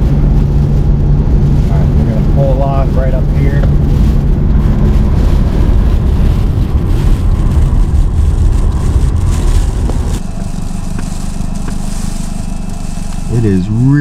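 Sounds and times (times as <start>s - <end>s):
car driving heard from inside: 0.0s - 14.0s.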